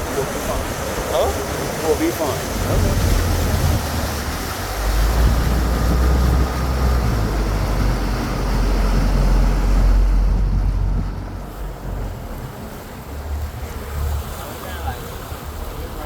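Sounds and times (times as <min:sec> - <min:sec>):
wind buffeting microphone: 0:00.0 - 0:14.5.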